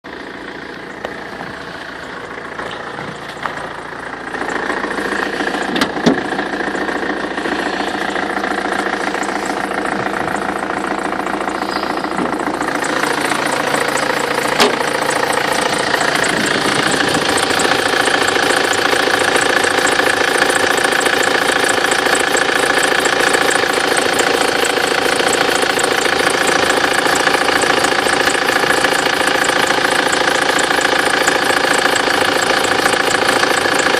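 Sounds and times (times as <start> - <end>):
diesel engine idling: 0.1 - 33.9
drive belt whistling: 6.6 - 33.9.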